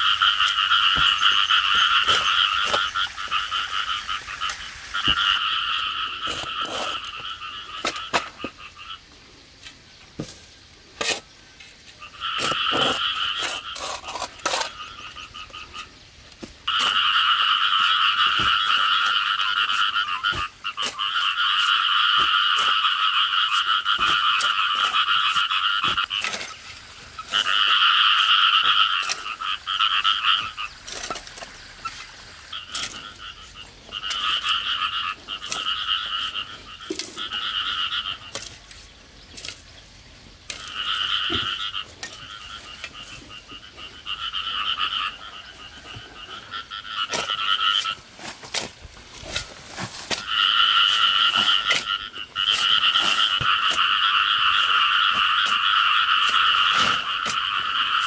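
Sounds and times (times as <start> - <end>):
frogs calling in chorus: 0.0 - 9.5, 11.0 - 58.0.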